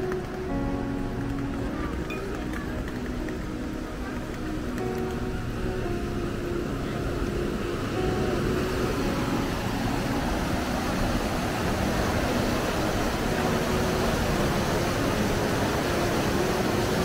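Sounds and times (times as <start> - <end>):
faint held music notes: 0.0 - 17.0
steady street rushing noise: 0.0 - 17.0.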